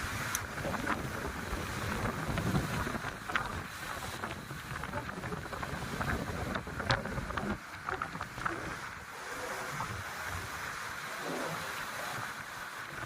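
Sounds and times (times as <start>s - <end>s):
wind buffeting microphone: 0.0s - 10.7s
sea surf: 0.0s - 13.0s.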